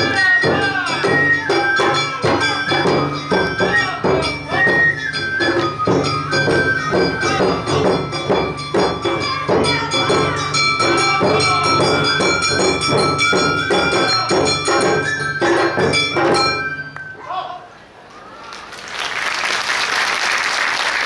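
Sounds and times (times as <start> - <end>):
drums beating brisk rhythm: 0.0 - 17.0
bamboo flute melody: 0.0 - 17.5.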